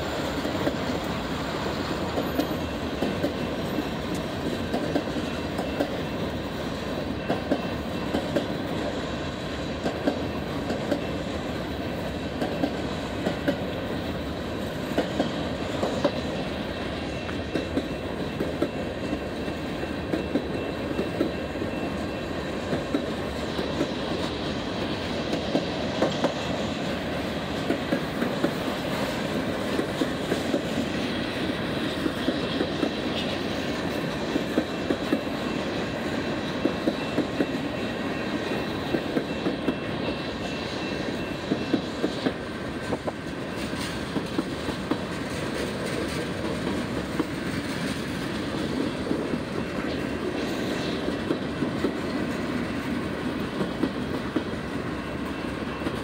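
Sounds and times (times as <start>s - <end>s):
steel wheels rumbling on rail: 0.0s - 56.0s
wheels clacking over rail joints: 0.0s - 56.0s.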